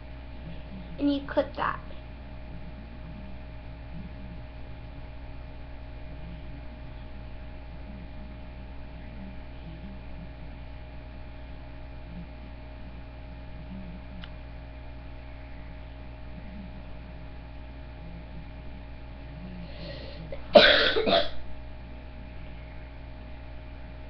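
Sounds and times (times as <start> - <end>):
electrical mains hum and hiss: 0.0 - 24.0.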